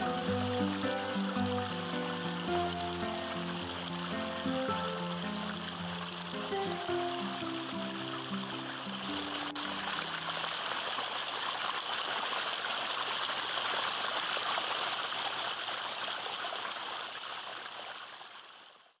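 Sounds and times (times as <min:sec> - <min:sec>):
water running over rocks: 0:00.0 - 0:19.0.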